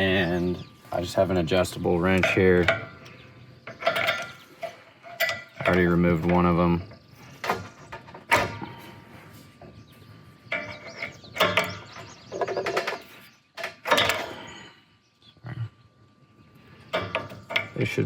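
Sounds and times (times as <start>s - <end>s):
fitting squeaking: 0.0s - 14.9s, 16.7s - 18.0s.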